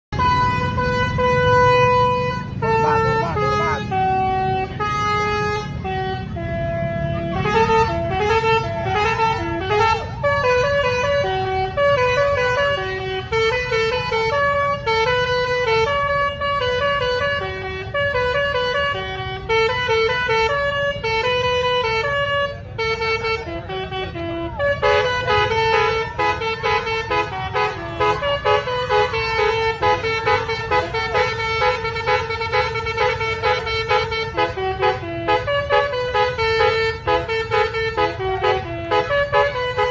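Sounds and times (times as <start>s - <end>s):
musical horn melody: 0.1s - 39.9s.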